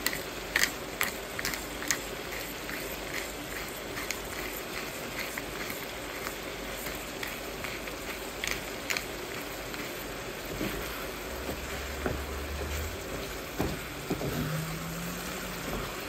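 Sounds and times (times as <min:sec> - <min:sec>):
food sizzling in a frying pan: 0:00.2 - 0:16.0.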